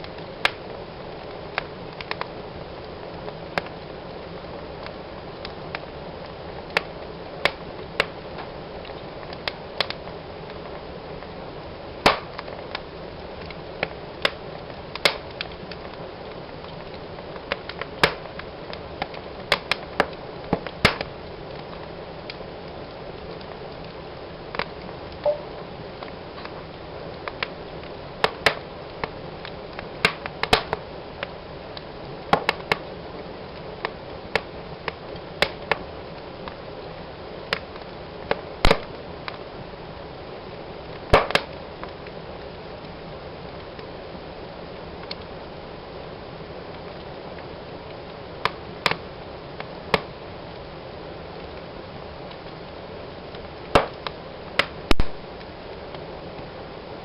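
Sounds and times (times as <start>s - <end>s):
fire crackling and popping: 0.0s - 57.0s
hiss of flames: 0.0s - 57.0s.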